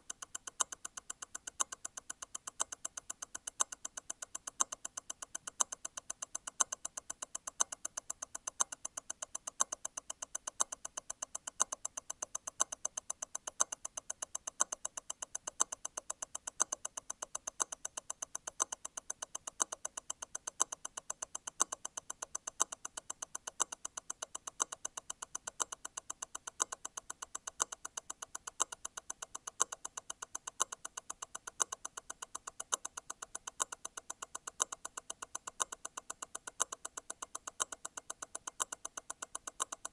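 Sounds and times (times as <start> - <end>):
watch movement ticking: 0.0 - 39.9.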